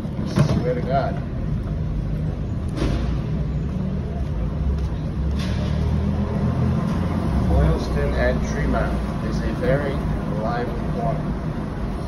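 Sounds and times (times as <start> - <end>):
passing vehicles engine rumble: 0.0 - 12.0.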